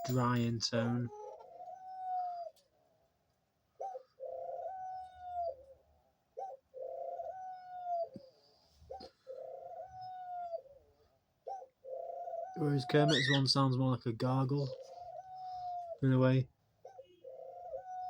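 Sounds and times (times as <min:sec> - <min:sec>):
dove cooing: 0:00.0 - 0:02.6, 0:03.8 - 0:13.7, 0:14.5 - 0:18.0.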